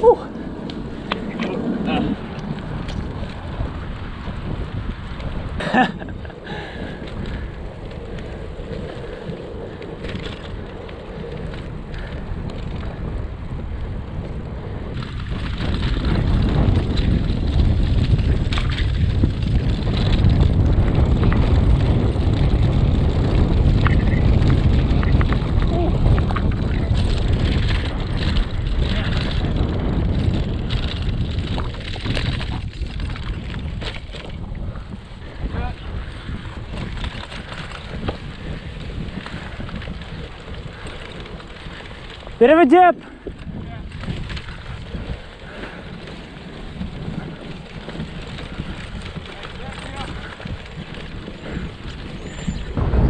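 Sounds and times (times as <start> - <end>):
bike clicks and rattles: 0.0 - 52.9
wind buffeting microphone: 0.0 - 53.0.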